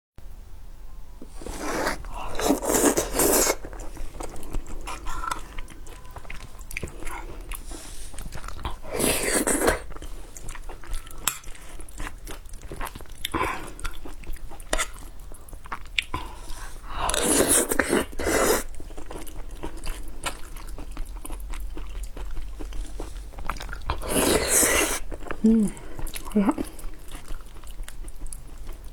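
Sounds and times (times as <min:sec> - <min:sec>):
noisy eating: 0:01.2 - 0:28.9
person chewing crunchily: 0:01.3 - 0:28.9.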